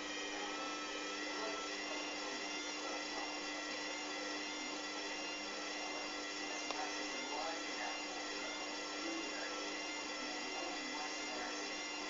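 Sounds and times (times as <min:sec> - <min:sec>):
washing machine motor whine: 0:00.0 - 0:12.0.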